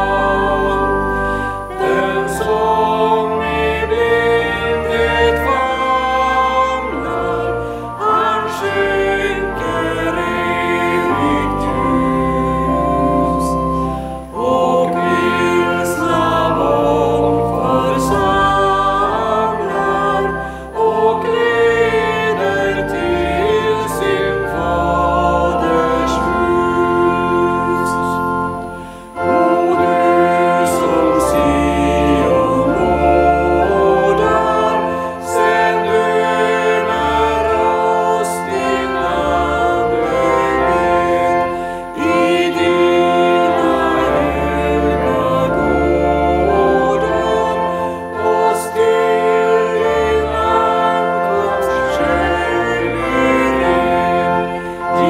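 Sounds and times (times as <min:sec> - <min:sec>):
organ: 0:00.0 - 0:55.0
voices singing together: 0:00.0 - 0:55.0.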